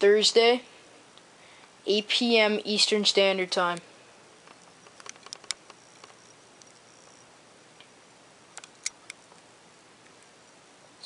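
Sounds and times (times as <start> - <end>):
low room hiss: 0.0 - 11.0.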